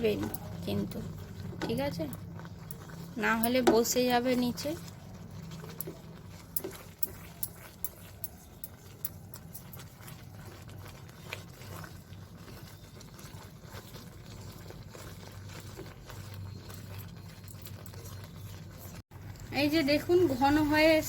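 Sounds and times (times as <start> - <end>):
spatula scraping a pan: 0.0 - 19.0.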